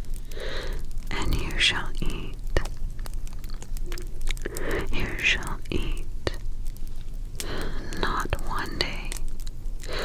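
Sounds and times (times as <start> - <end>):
fire crackling with pops: 0.0 - 10.0
low steady rumble: 0.0 - 10.0
soft whisper: 0.5 - 2.8, 3.8 - 10.0.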